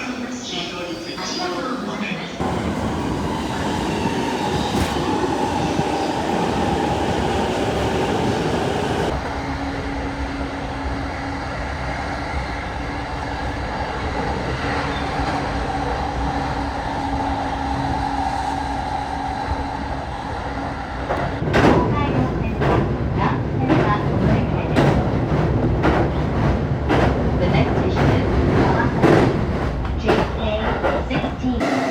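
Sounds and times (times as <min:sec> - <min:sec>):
electric train rail rumble: 0:02.2 - 0:31.9.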